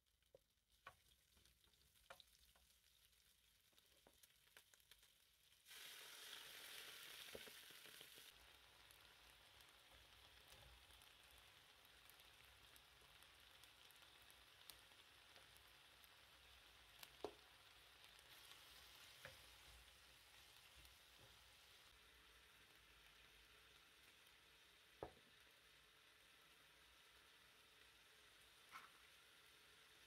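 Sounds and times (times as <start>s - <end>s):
bacon sizzling in frying pan: 0.1s - 30.0s.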